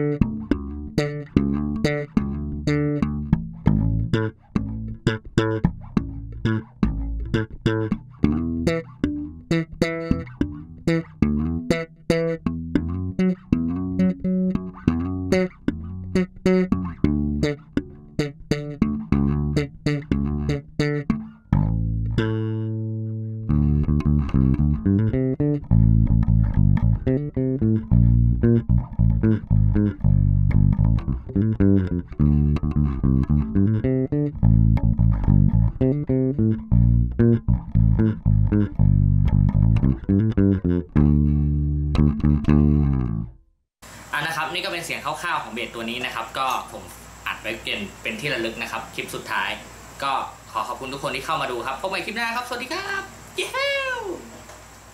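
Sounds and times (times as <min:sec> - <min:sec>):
bass guitar fingerpicked solo: 0:00.0 - 0:43.6, 0:52.7 - 0:54.5.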